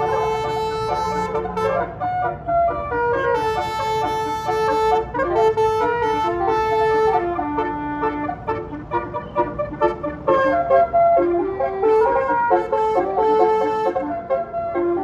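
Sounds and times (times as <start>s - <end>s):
multi-tone bus horn tune: 0.0s - 15.0s.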